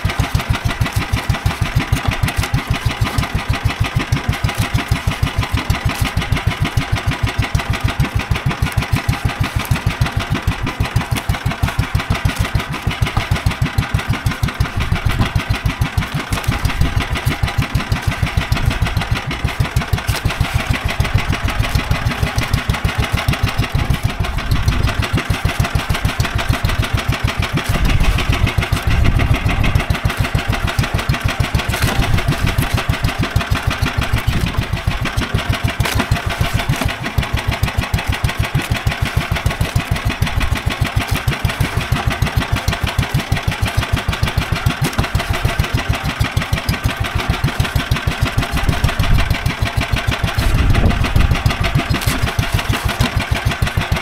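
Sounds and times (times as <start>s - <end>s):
boat engine chugging: 0.0s - 54.0s.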